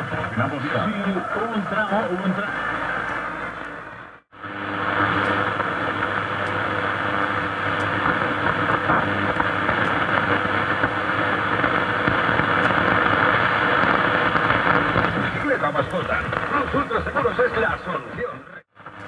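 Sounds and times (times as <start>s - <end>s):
faint hum: 0.0s - 18.2s
radio static: 0.0s - 19.0s.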